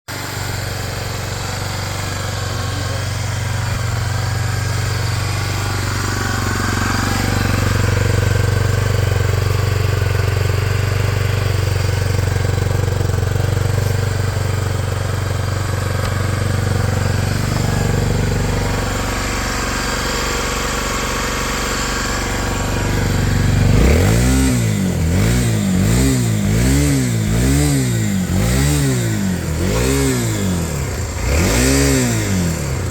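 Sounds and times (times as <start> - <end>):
motorcycle engine idling: 0.1 - 32.9
engine revving: 0.2 - 32.9.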